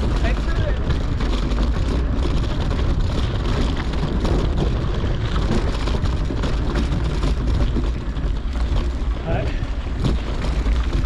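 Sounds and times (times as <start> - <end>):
bike tyres rolling on dirt: 0.0 - 11.0
wind rumble on microphone: 0.0 - 11.0.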